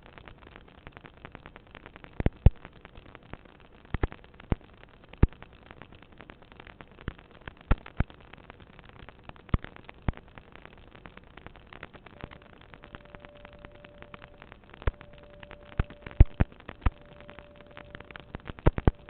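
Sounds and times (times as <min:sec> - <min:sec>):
faint clicks and crackles: 0:00.0 - 0:19.0
low hiss: 0:00.0 - 0:19.0
sharp pops: 0:01.8 - 0:19.0.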